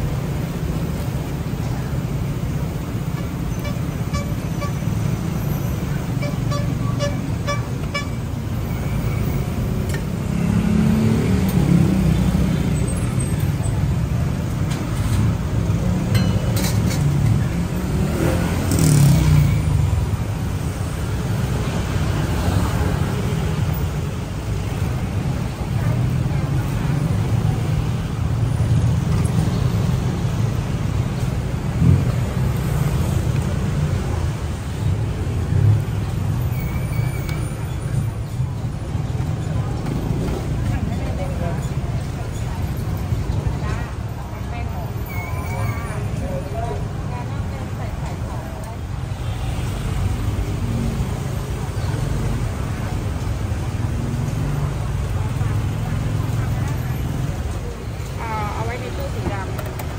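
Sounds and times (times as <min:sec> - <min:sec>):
cars and motorbikes passing: 0:00.0 - 0:59.9.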